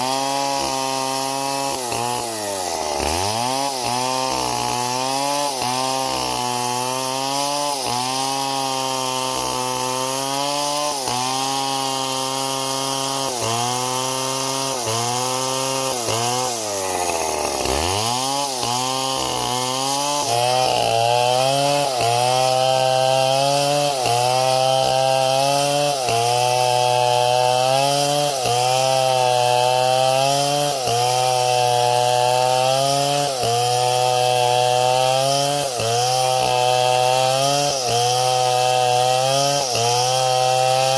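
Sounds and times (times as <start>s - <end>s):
saw engine cutting wood: 0.0s - 40.9s.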